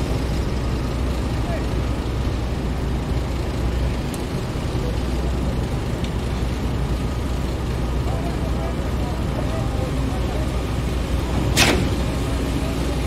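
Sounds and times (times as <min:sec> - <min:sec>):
low rumble of heavy engines: 0:00.0 - 0:13.0
traffic: 0:00.0 - 0:13.0.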